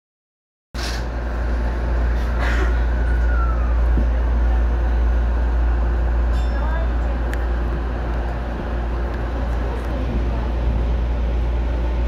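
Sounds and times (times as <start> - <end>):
electric train rumbling: 0.8 - 12.0.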